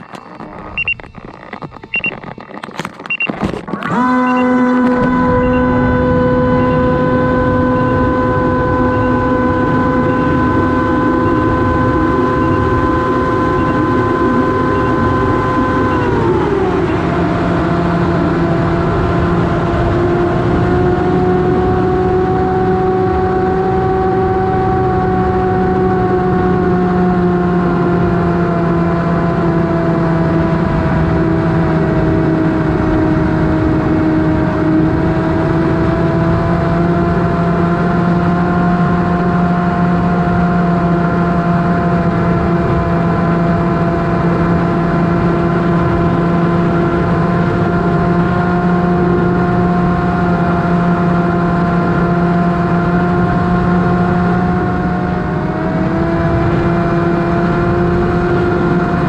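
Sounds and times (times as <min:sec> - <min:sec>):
electric plane motor whining: 0:03.5 - 0:59.0.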